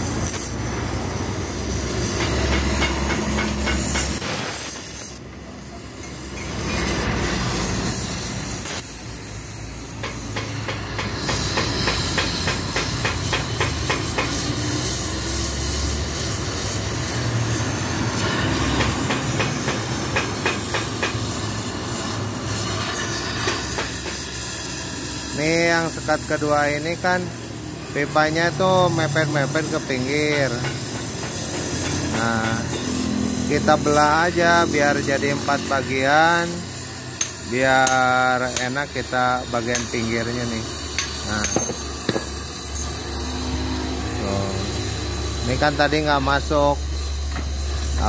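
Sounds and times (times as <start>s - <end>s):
cutting torch hissing: 0.0s - 48.0s.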